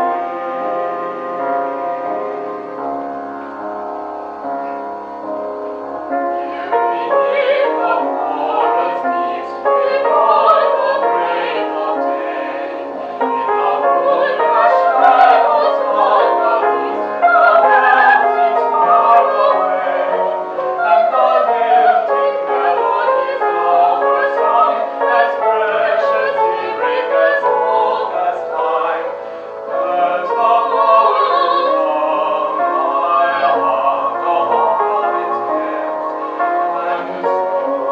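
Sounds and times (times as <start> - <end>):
operatic singing: 6.1 - 37.9.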